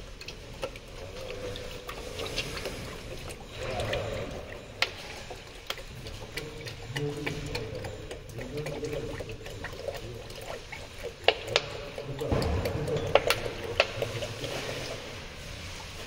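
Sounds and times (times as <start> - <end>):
oil trickling into plastic bottle: 0.0 - 16.0.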